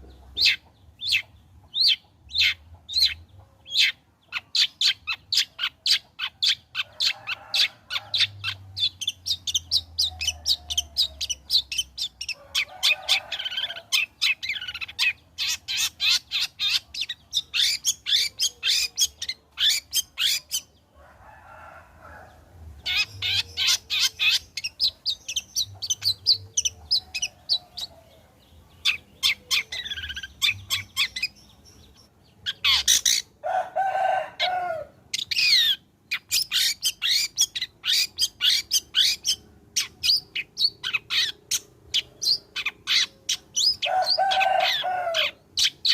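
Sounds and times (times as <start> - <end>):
bird singing sharp chattering notes: 0.0 - 20.8, 22.8 - 33.4, 35.2 - 44.2.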